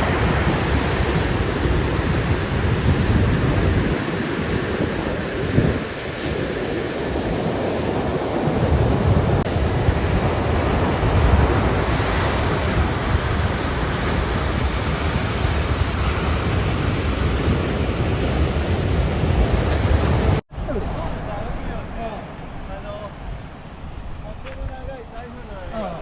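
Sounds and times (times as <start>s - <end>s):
ocean surf breaking on shore: 0.0s - 26.0s
wind rumbling on microphone: 0.0s - 26.0s.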